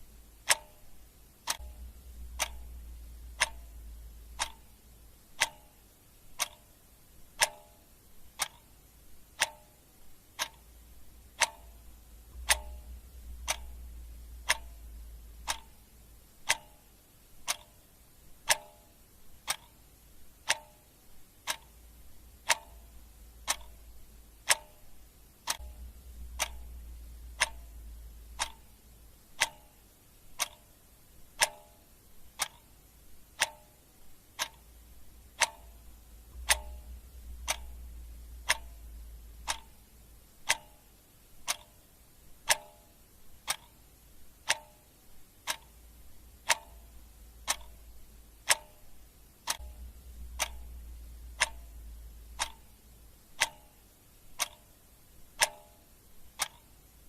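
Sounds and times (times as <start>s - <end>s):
clock ticking: 0.0s - 57.0s
faint low rumble: 0.0s - 57.0s.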